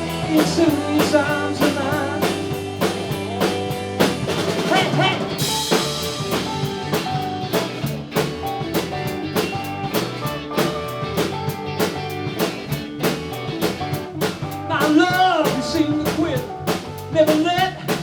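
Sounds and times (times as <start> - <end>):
drum kit steady beat: 0.0 - 18.0
rock band playing: 0.0 - 18.0.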